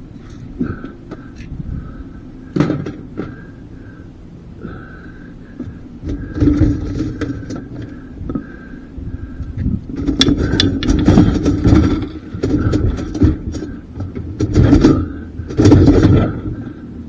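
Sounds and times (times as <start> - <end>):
on-and-off whine: 0.0 - 17.0
knocks and clatter of parts: 0.2 - 3.5, 5.6 - 8.5, 9.4 - 16.9.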